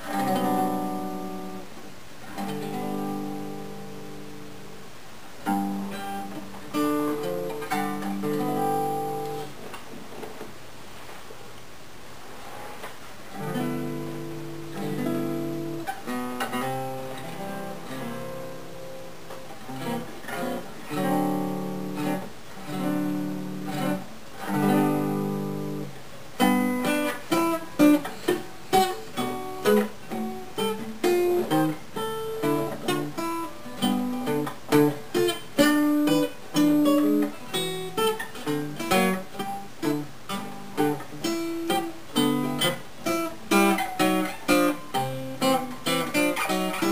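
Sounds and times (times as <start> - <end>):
acoustic guitar strummed chords: 0.0 - 4.8, 5.4 - 9.6, 12.5 - 46.9.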